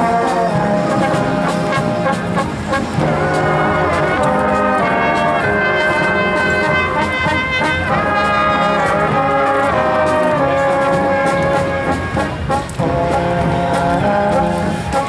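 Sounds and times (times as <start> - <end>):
brass instruments holding chords: 0.0 - 15.0
marching drum strokes: 0.0 - 15.0.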